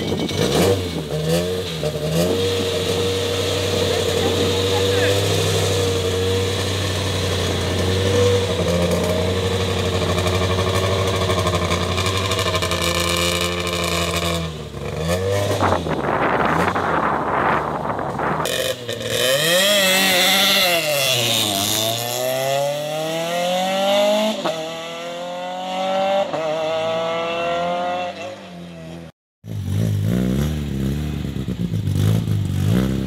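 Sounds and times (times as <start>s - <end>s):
rally car engine accelerating: 0.2s - 28.3s.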